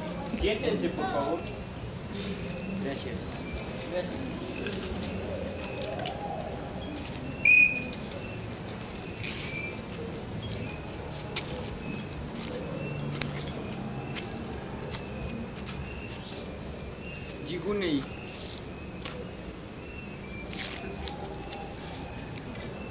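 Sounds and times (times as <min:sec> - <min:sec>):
crickets trilling: 0:00.0 - 0:22.9.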